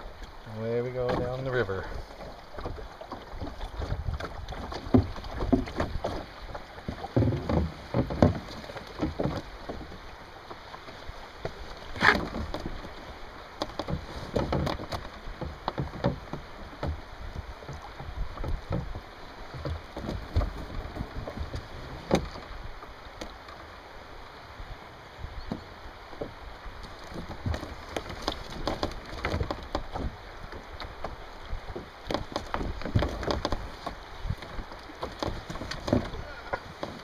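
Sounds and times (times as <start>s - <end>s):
water splashing against hull: 0.0s - 37.0s.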